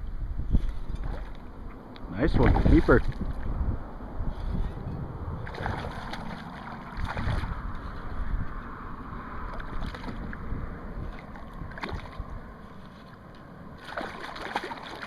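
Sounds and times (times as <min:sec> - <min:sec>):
water at the shore: 0:00.0 - 0:15.0
wind rumbling on microphone: 0:00.0 - 0:15.0.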